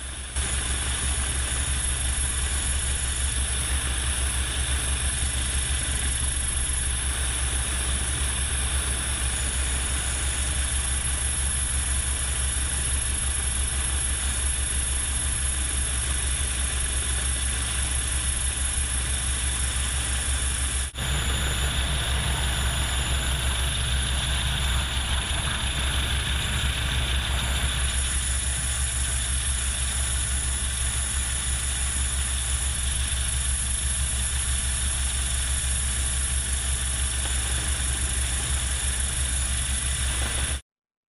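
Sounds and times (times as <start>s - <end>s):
helicopter rotor noise: 0.0s - 40.6s.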